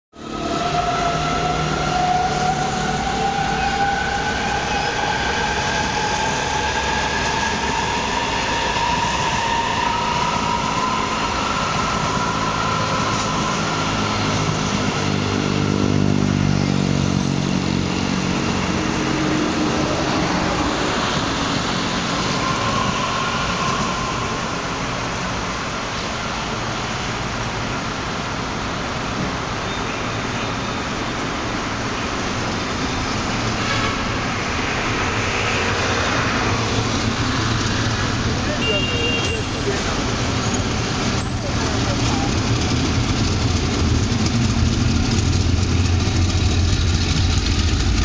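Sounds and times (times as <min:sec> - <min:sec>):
train traction motors whining: 0:00.2 - 0:26.8, 0:31.4 - 0:48.0
wheel-on-rail rumble: 0:00.3 - 0:48.0.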